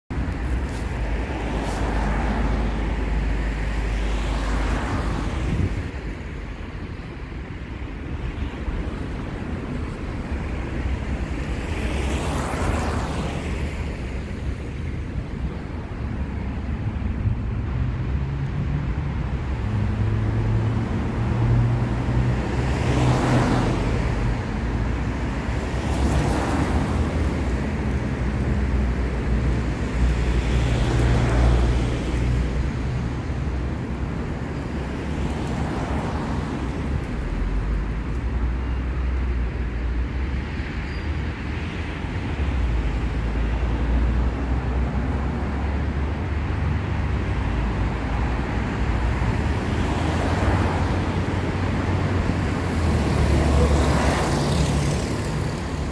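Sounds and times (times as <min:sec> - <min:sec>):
cars passing: 0:00.1 - 0:55.9
traffic rumble: 0:00.1 - 0:55.9.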